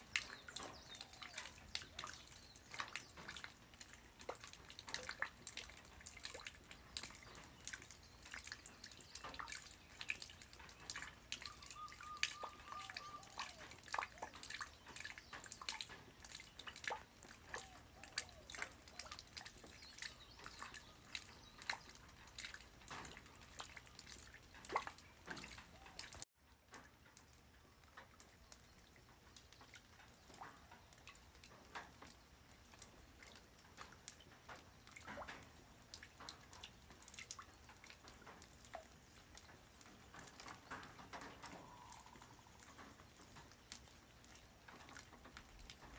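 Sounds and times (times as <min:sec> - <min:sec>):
light rain on ground: 0:00.0 - 0:45.9.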